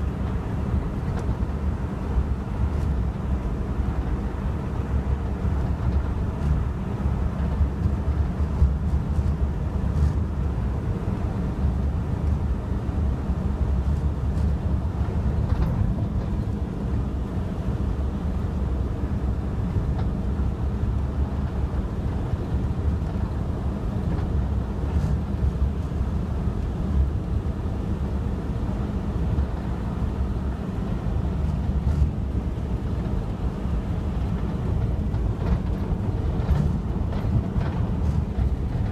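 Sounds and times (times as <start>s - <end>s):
moving car rumble: 0.0s - 38.9s.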